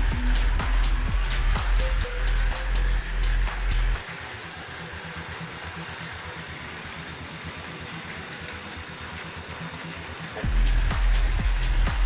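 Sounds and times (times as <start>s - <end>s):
small model locomotive motor rattling: 1.3s - 11.8s.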